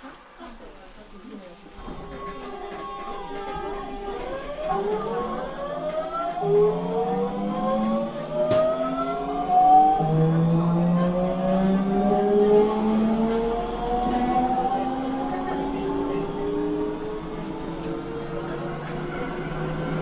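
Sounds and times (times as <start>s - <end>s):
train inverter whining: 2.8s - 20.0s.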